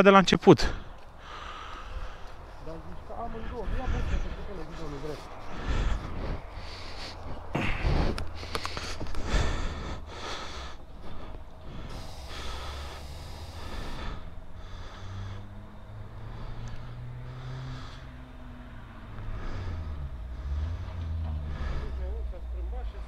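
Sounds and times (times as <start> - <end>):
engine idling with low hum: 0.7 - 23.0
breath-like puffs of noise: 0.8 - 22.1.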